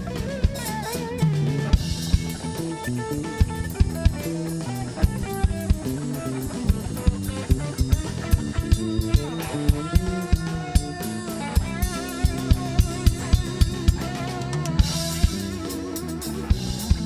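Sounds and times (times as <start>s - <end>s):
drum kit steady beat: 0.0s - 17.0s
guitar lines: 0.0s - 17.0s.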